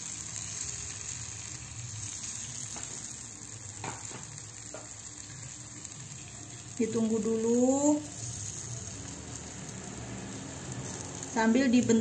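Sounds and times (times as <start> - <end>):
batter sizzling in oil: 0.0 - 12.0.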